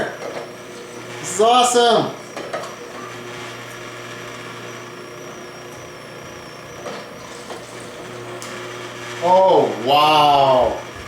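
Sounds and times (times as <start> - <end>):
juicer motor humming: 0.0 - 11.0.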